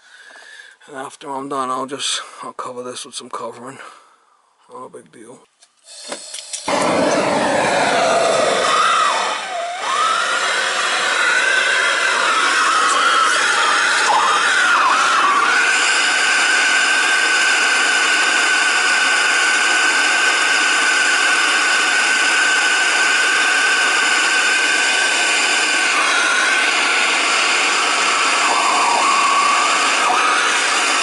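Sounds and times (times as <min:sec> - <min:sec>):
torch flame hissing and whistling: 0:05.9 - 0:31.0.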